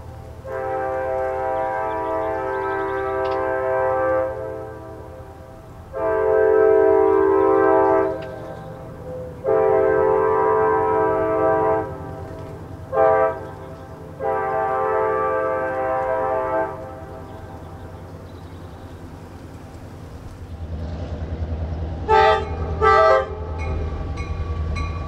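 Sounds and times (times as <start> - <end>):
low rumble of moving train: 0.0 - 25.0
locomotive horn blasts: 0.2 - 19.0, 22.0 - 25.0.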